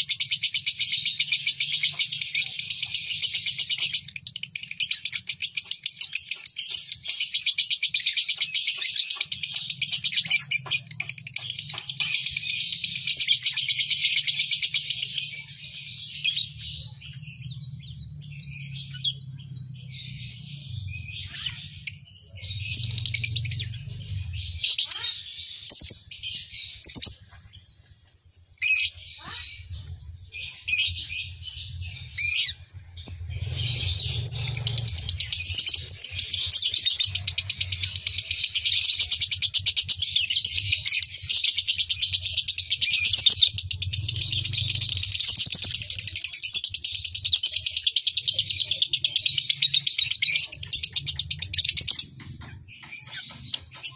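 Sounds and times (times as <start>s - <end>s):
lovebirds chattering: 0.0s - 53.9s.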